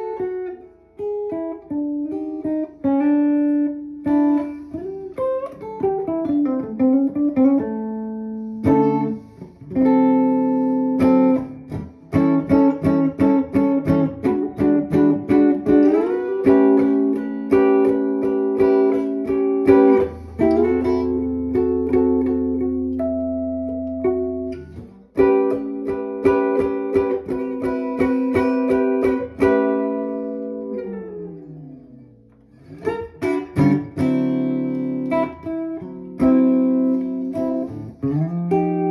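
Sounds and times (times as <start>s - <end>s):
electric guitar playing blues: 0.0s - 38.9s.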